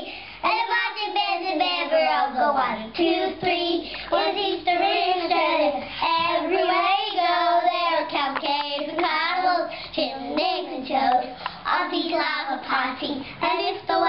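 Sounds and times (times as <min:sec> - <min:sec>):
children singing: 0:00.6 - 0:14.0.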